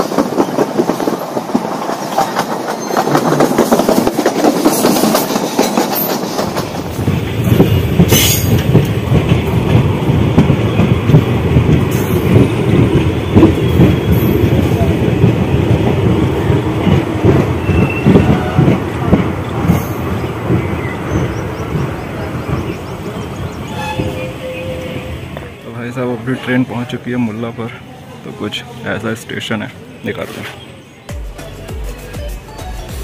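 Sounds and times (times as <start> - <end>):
train wheels rumbling and clattering: 0.0 - 27.2.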